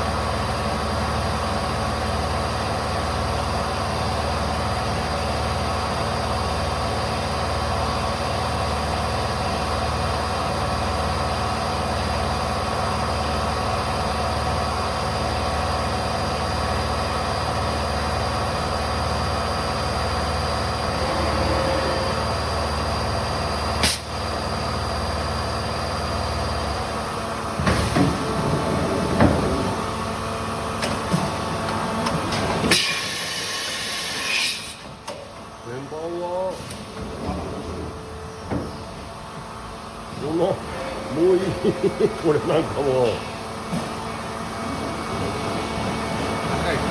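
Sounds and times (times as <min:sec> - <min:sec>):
large machine humming and throbbing: 0:00.0 - 0:46.9.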